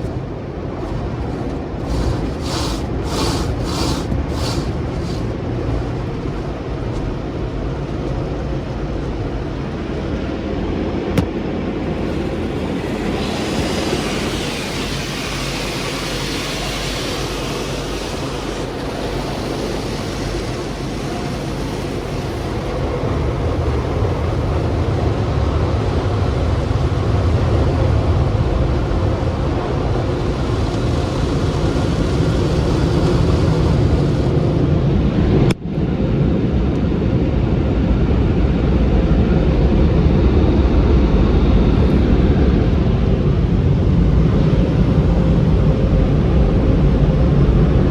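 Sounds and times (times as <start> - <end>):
car wash machinery rushing: 0.0 - 47.9.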